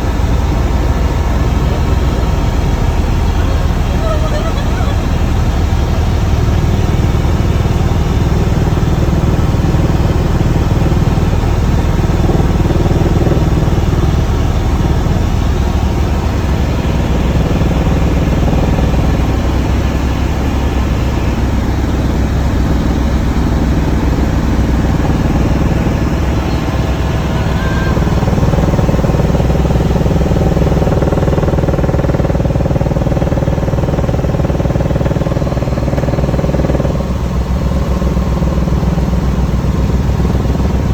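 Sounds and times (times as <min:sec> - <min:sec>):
helicopter in flight: 0:00.0 - 0:40.9.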